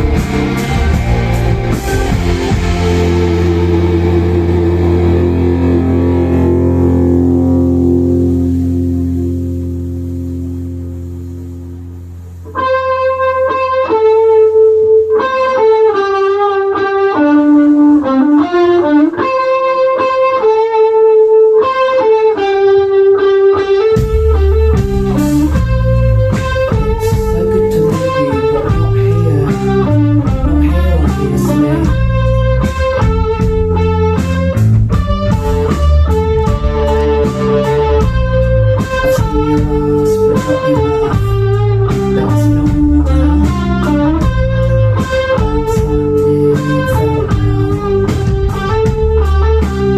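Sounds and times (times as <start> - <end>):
rock band playing: 0.0 - 10.6, 12.5 - 49.9
clean electric guitar melody: 0.0 - 49.9.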